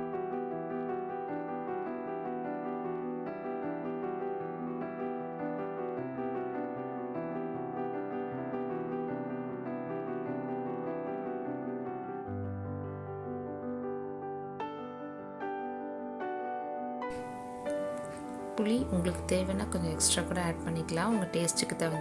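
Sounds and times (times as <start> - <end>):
background piano music: 0.0 - 22.0.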